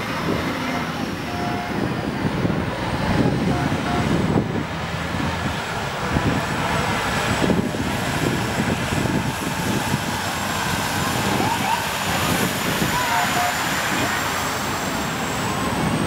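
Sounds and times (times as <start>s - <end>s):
heavy truck engines rumbling: 0.0s - 16.0s.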